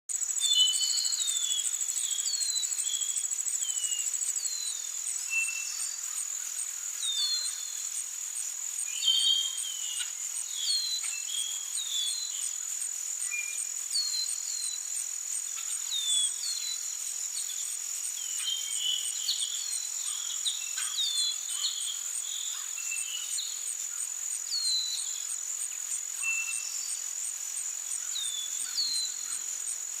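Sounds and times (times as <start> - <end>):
crickets trilling: 0.1 - 30.0.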